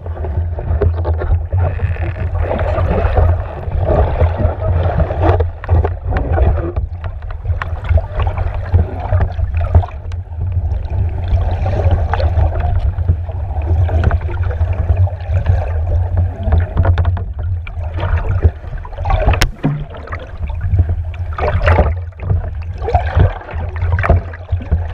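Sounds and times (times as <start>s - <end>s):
water splashing around boat: 0.0s - 24.9s.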